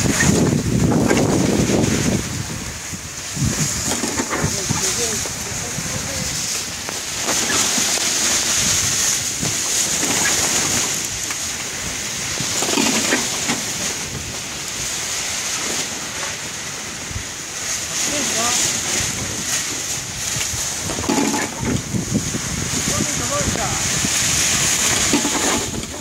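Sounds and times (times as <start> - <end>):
water rushing along a hull: 0.0 - 26.0
wind: 0.0 - 26.0.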